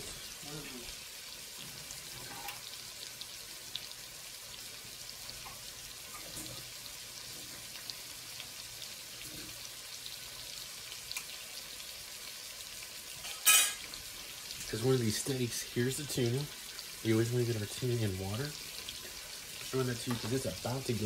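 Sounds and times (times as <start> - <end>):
steaks sizzling in a pan: 0.0 - 21.0.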